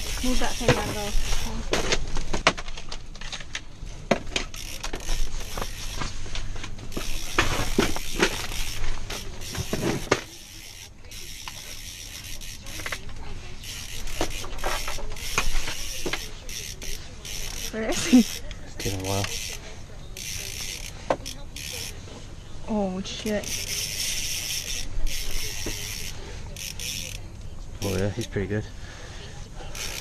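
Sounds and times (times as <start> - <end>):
fishing reel ratcheting: 0.0 - 3.6, 4.3 - 19.6, 20.2 - 22.0, 23.2 - 28.3, 29.7 - 30.0.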